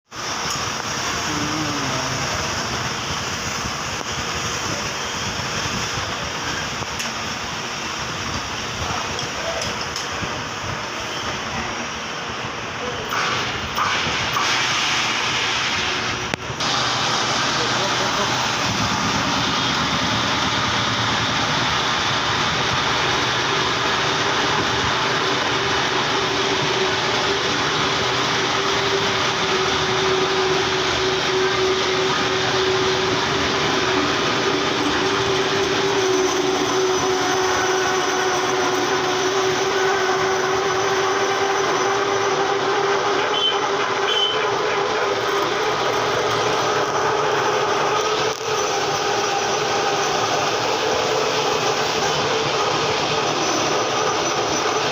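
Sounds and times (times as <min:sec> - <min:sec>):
metal lathe running: 0:00.1 - 0:54.9.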